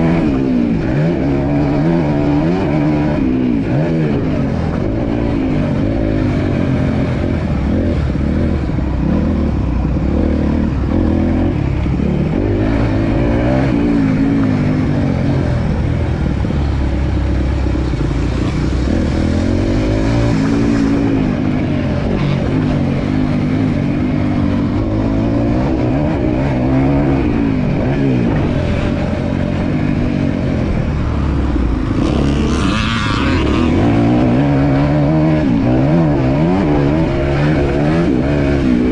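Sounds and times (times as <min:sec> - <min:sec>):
motocross bike engine revving: 0:00.0 - 0:38.9
rush of noise: 0:00.0 - 0:38.9.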